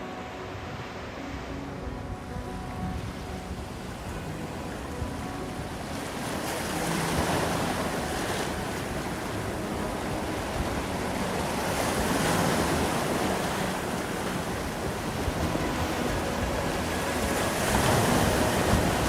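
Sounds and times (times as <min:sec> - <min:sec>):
ocean surf washing: 0:00.0 - 0:19.0
wind buffeting microphone: 0:00.0 - 0:19.0.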